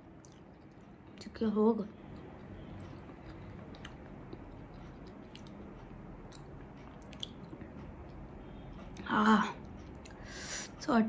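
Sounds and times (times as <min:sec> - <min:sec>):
faint chewing: 0:00.0 - 0:10.3.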